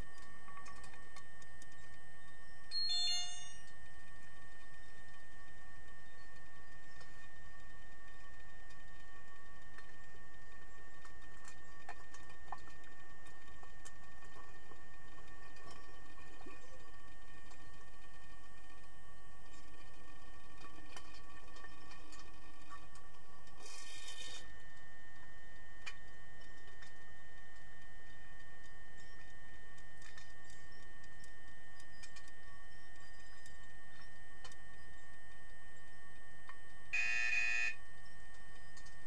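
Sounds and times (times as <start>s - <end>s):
faint clicks: 0.0s - 2.5s, 3.6s - 36.9s, 37.8s - 39.0s
underwater hum with tones: 0.0s - 39.0s.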